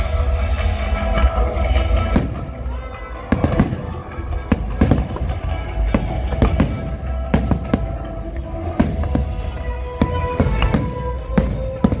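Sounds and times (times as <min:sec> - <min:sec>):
music: 0:00.0 - 0:12.0
fireworks bursting with sharp bangs: 0:01.8 - 0:12.0.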